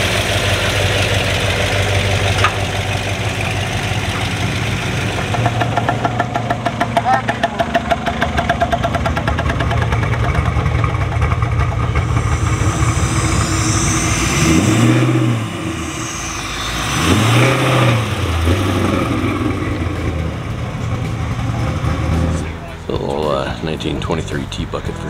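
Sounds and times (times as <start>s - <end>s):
car engine revving: 0.0s - 22.8s.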